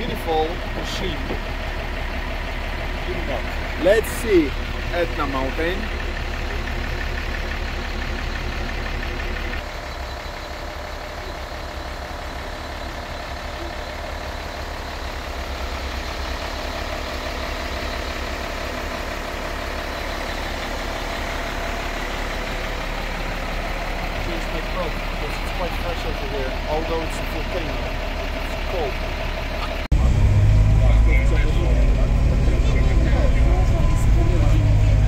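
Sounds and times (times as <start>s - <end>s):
diesel truck engine idling: 0.0s - 35.0s.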